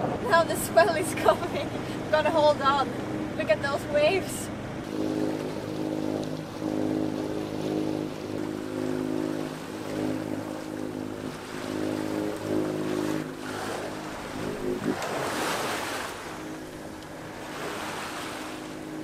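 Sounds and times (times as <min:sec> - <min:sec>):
boat engine running: 0:00.0 - 0:19.0
water rushing past hull: 0:00.0 - 0:19.0.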